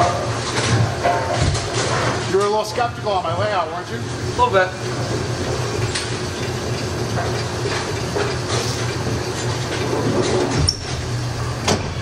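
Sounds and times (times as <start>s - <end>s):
pinsetter machinery and rolling balls: 0.0s - 12.0s.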